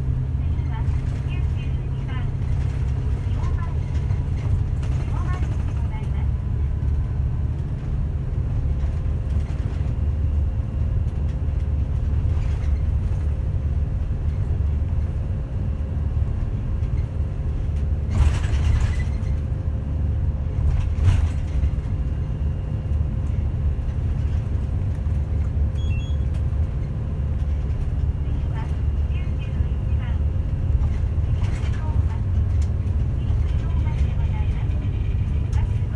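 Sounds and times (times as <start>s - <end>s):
bus engine drone: 0.0s - 35.9s
road rumble: 0.0s - 35.9s.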